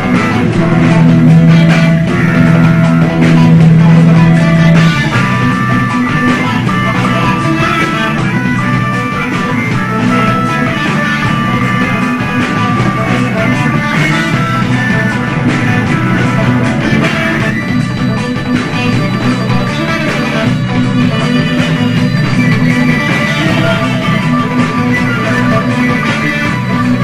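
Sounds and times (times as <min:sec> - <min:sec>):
electric guitar sustained notes: 0:00.0 - 0:27.0
live rock band playing: 0:00.0 - 0:27.0.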